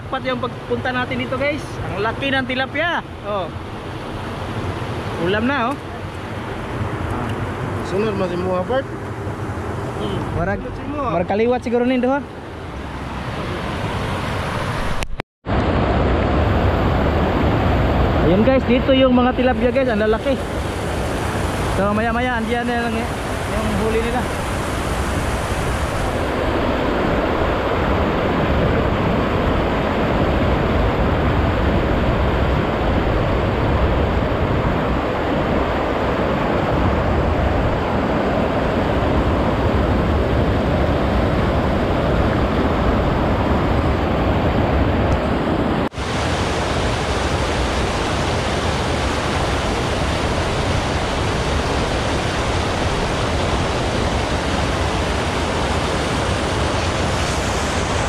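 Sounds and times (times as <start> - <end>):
water rushing over weir: 0.0 - 58.0.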